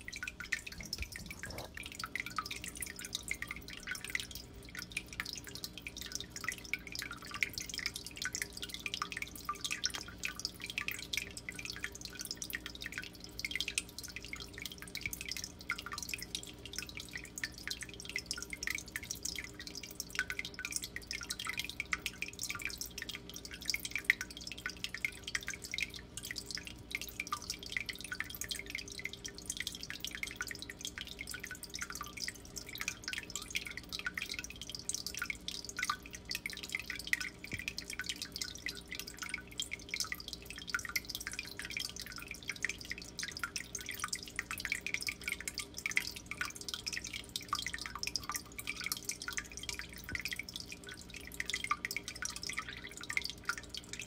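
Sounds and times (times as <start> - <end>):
low pump hum: 0.0 - 54.0
water trickling and splashing: 0.0 - 54.0.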